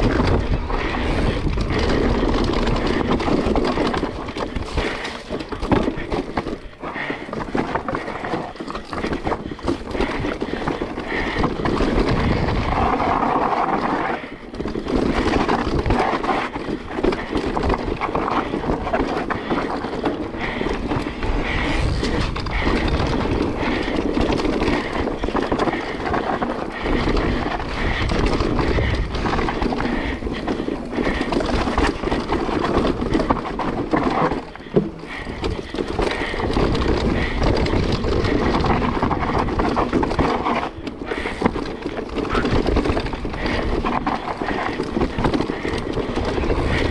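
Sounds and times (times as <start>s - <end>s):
bike rattles and knocks: 0.0s - 46.9s
bike tyres rumbling on dirt: 0.0s - 46.9s
wind buffeting microphone: 0.0s - 46.9s.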